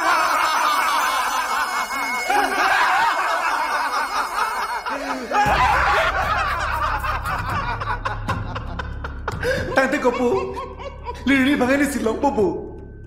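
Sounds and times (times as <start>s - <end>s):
people laughing: 0.0s - 11.6s.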